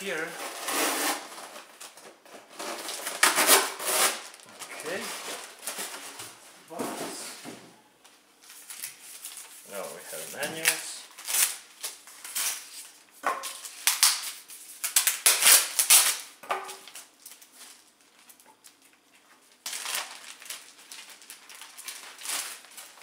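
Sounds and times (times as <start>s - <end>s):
packaging rustling and crinkling: 0.3s - 6.8s, 8.4s - 23.0s.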